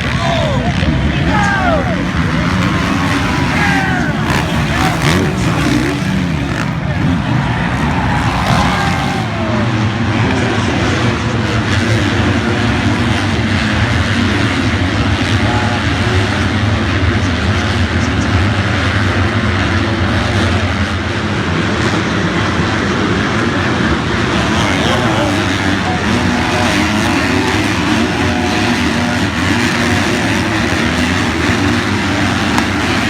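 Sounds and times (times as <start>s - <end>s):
steady engine drone: 0.0s - 33.0s.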